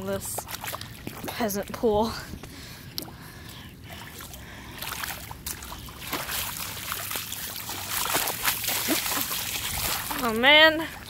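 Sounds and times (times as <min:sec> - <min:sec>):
flip-flops splashing through water: 0:00.0 - 0:11.0
trickling water: 0:00.0 - 0:11.0.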